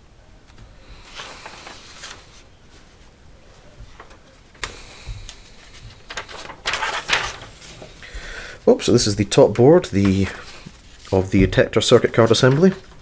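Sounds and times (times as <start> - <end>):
paper rustling and crackling: 0.5 - 13.0.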